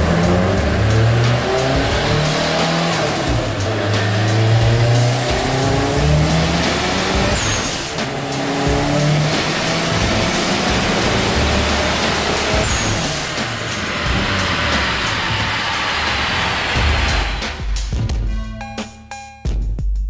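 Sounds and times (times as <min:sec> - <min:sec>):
car engine running hard: 0:00.0 - 0:17.9
tyres spinning dyno rollers: 0:00.0 - 0:17.9.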